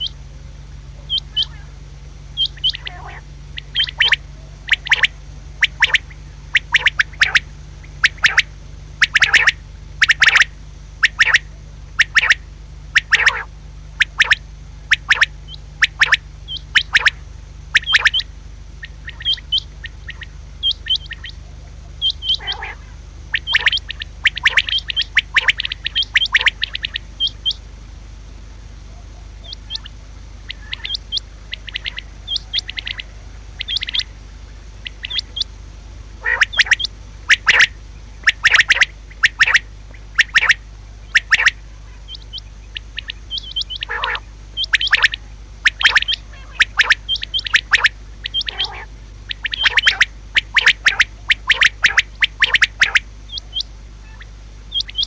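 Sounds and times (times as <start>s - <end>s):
quail calling: 0.0s - 27.7s, 28.6s - 55.0s
steady low hum: 0.0s - 55.0s.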